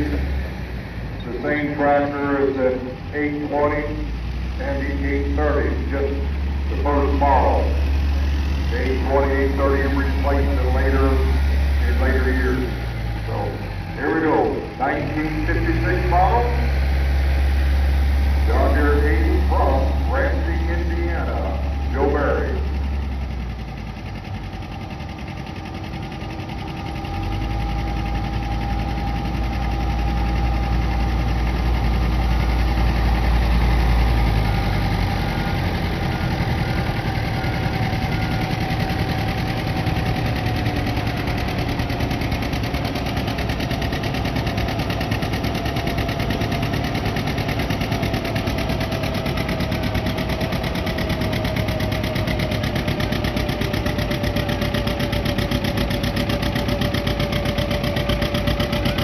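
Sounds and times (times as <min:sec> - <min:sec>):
diesel engine pulling under load: 0:00.0 - 0:59.0.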